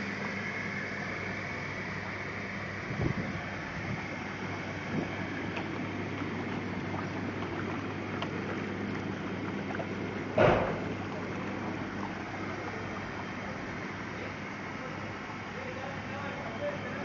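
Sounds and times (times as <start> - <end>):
bathtub pump motor humming: 0.0 - 17.0
churning water: 0.0 - 17.0.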